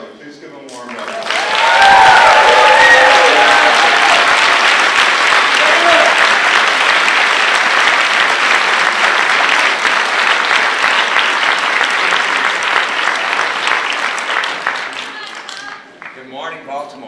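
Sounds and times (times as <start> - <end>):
audience applauding: 0.7 - 16.6.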